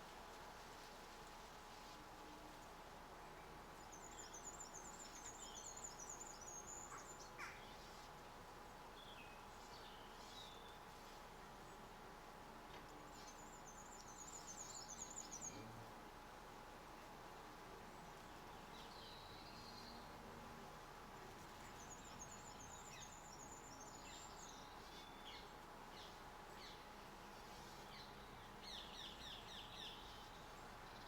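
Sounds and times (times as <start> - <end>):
faint steady hum: 0.0 - 31.0
songbird chirping: 2.6 - 31.0.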